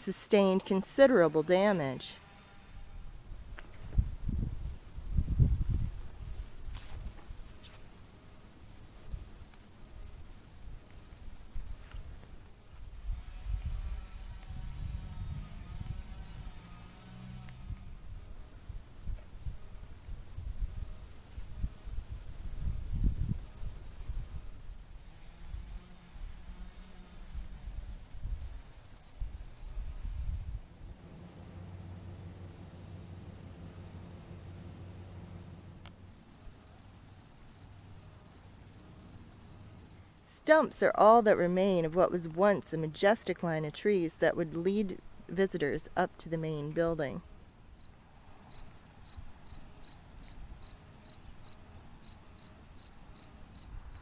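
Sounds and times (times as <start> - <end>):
cricket chirping: 0.0 - 40.2, 47.2 - 54.0
insects droning: 0.0 - 54.0.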